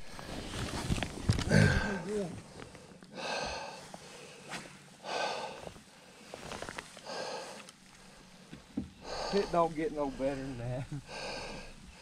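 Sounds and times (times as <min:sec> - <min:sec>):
person breathing hard: 0:01.4 - 0:12.0.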